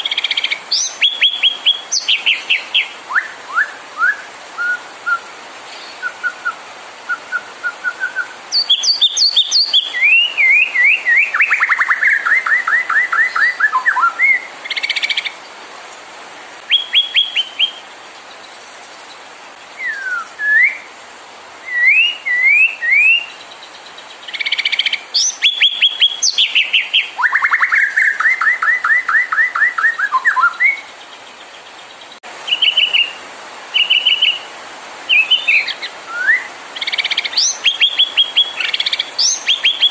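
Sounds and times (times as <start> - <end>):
songbird singing whistles and trills: 0.0 - 15.4, 16.6 - 19.2, 19.8 - 20.9, 21.6 - 34.5, 35.1 - 39.9.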